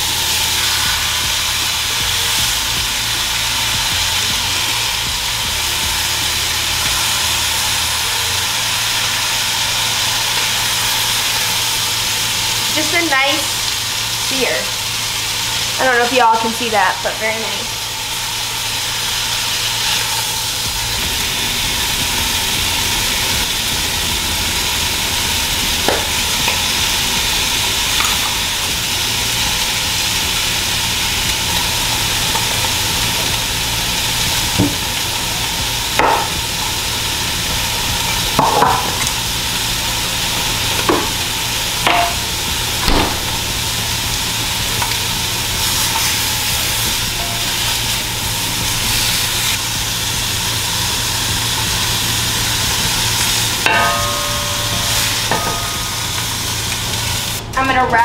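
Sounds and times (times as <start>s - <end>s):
chicken sizzling in a pan: 0.0s - 57.6s.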